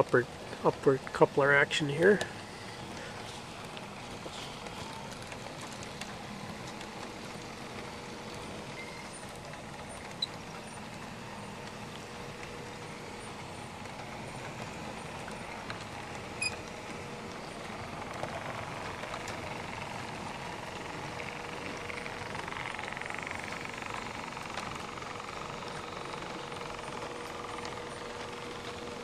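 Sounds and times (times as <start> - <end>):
model train wheels rumbling: 0.0 - 29.0
motor gear whine: 0.0 - 29.0.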